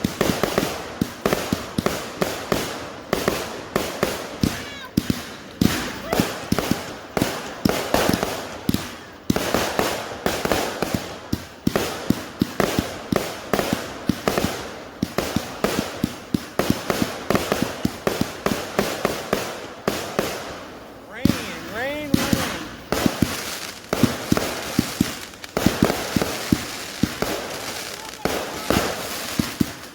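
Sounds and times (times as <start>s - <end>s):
fireworks crackling: 0.0s - 29.9s.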